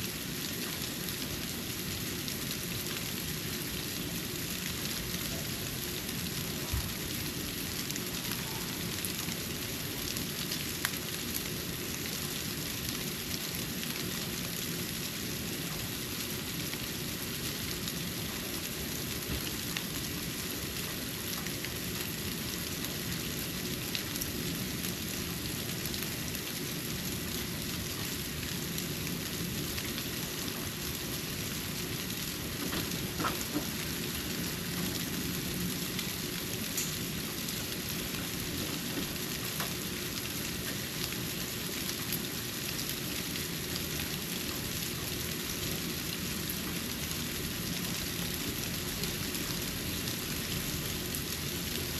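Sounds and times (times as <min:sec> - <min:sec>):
soft hiss of falling snow: 0:00.0 - 0:51.9.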